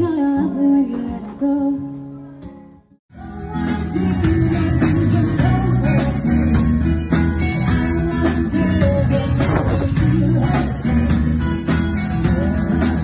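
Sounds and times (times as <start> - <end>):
upbeat music with guitar and drums: 0.0 - 13.0.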